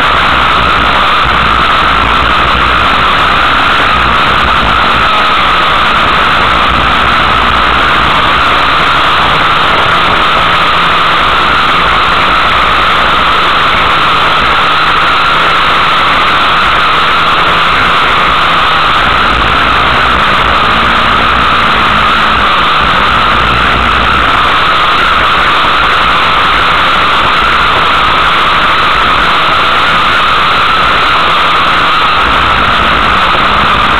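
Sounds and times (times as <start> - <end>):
racing car engine running hard: 0.0 - 33.9
rushing wind noise: 0.0 - 33.9.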